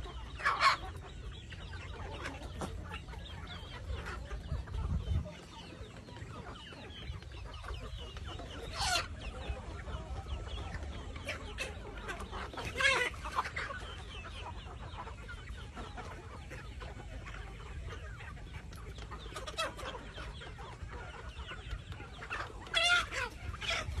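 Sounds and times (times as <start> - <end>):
chickens clucking and calling: 0.0 - 24.0.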